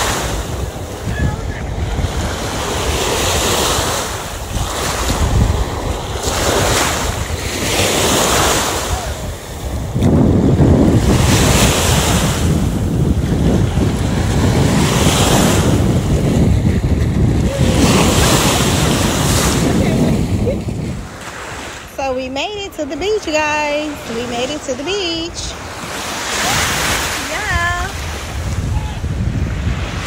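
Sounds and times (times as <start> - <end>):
small waves washing in shallows: 0.0 - 30.0
wind buffeting microphone: 0.0 - 30.0.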